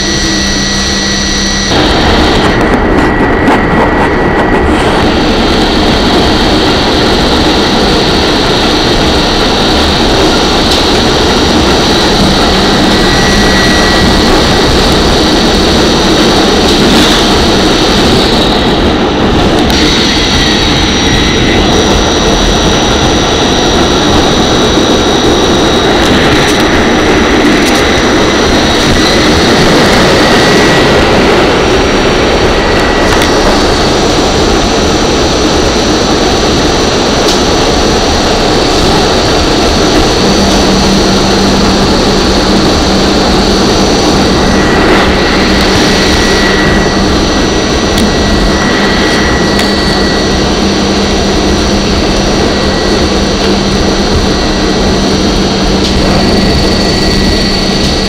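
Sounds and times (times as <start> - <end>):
high whining tones: 0.0 - 58.0
subway wheels rumbling on rail: 0.0 - 58.0.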